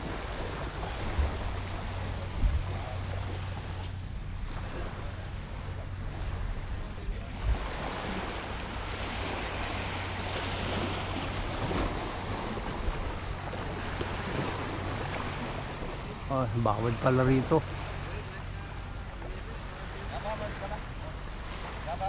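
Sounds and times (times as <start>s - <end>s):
wind rumbling on microphone: 0.0s - 17.8s
small waves washing on sand: 0.0s - 22.0s.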